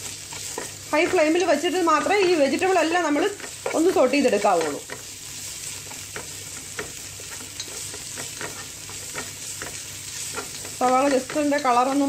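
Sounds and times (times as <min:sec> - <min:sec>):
onion sizzling in hot oil: 0:00.0 - 0:12.0
spatula scraping a pan: 0:00.0 - 0:12.0.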